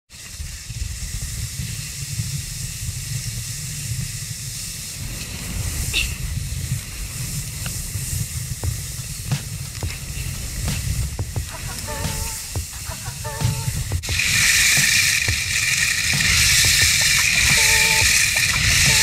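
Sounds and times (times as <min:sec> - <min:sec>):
skis hissing through snow: 0:00.1 - 0:19.0
wind rumbling on microphone: 0:00.1 - 0:19.0.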